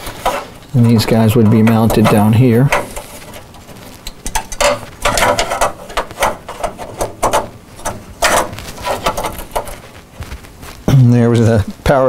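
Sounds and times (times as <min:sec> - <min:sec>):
metal parts clicking and scraping: 0:00.0 - 0:10.0.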